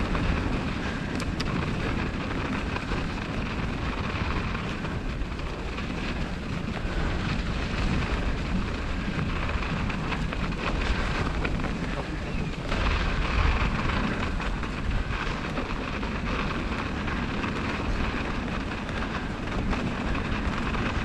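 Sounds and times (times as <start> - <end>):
bicycle tyres rolling over snow: 0.0 - 21.0
wind on microphone: 0.0 - 21.0.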